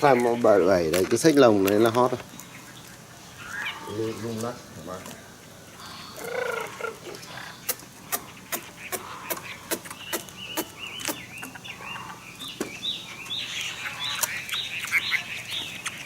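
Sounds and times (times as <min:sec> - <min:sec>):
bird warbling song: 0:00.0 - 0:00.9, 0:01.5 - 0:16.0.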